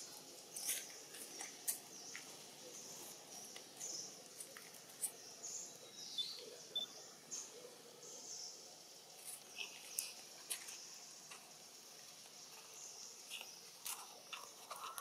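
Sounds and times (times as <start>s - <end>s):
faint forest ambience: 0.0s - 15.0s.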